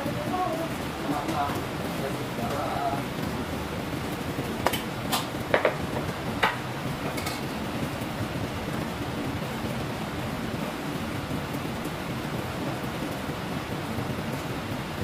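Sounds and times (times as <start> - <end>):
kitchen ventilation fan whooshing: 0.0 - 15.0.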